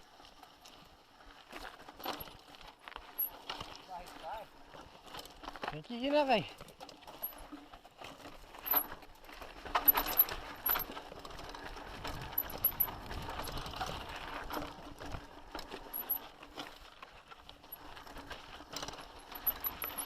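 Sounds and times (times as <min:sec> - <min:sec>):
bike rattling over rough trail: 0:00.0 - 0:20.0.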